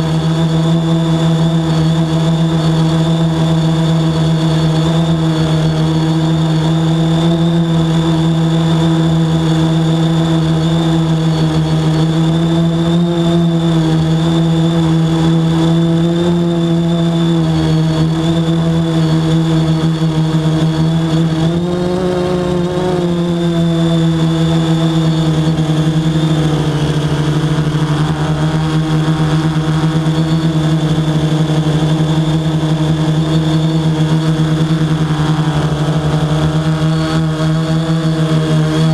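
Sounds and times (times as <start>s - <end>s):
drone propellers humming: 0.0s - 38.9s.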